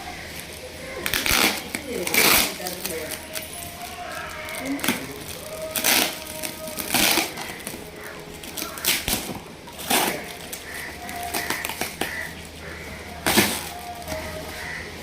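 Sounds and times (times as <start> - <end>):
package tearing open: 0.2 - 12.5, 13.2 - 14.8.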